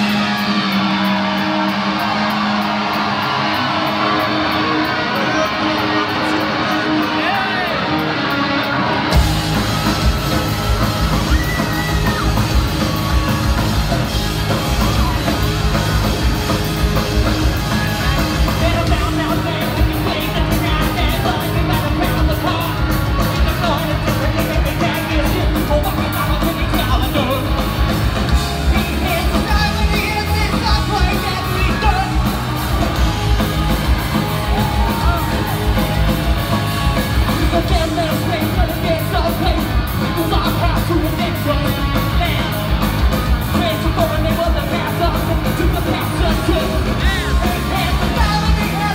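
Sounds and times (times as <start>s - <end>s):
live rock band: 0.0s - 48.9s
yelled vocals: 0.0s - 48.9s.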